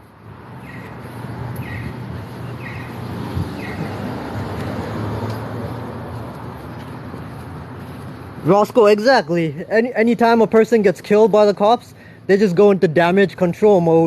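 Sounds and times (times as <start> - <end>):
vehicle passing with road noise: 0.0 - 14.0.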